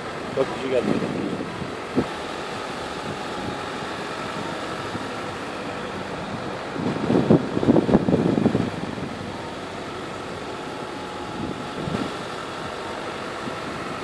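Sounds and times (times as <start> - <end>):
car engine running: 0.0 - 14.0
road noise inside car: 0.0 - 14.0.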